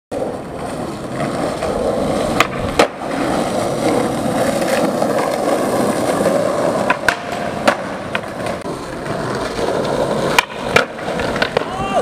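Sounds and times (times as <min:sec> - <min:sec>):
skateboard clacks: 0:00.1 - 0:12.0
skateboard wheels rolling on asphalt: 0:00.1 - 0:12.0.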